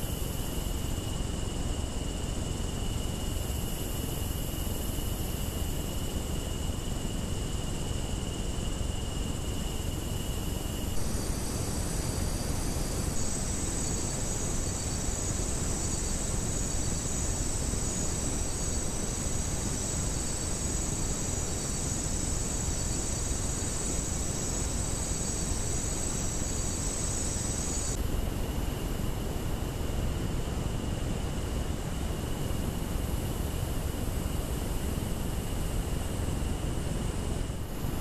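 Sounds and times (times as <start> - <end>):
insects chorus: 0.0 - 38.0.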